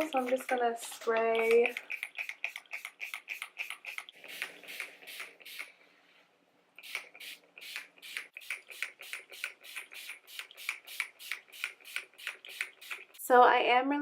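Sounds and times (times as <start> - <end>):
spray bottle hissing: 0.0 - 5.8, 6.8 - 13.2.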